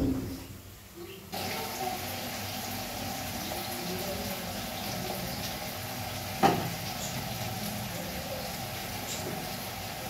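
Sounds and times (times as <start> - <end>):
meat sizzling in oil: 1.3 - 10.0.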